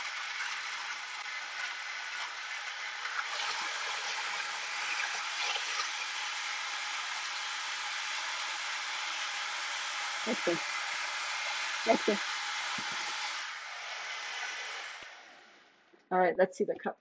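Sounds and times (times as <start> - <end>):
blender running: 0.0 - 15.4.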